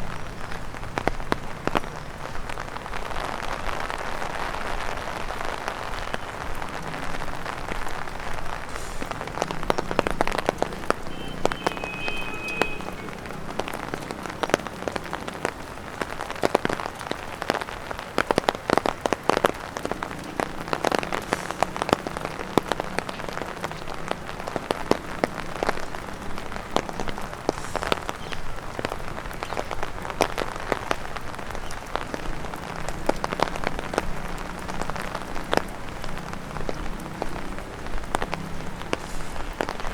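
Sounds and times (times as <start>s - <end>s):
rain tapping on an umbrella: 0.0s - 39.9s
steady rain patter: 0.0s - 39.9s.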